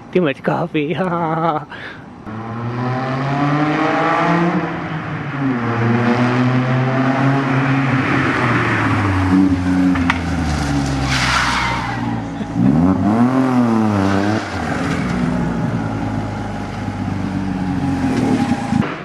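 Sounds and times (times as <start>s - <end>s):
car engine droning: 2.1s - 18.9s.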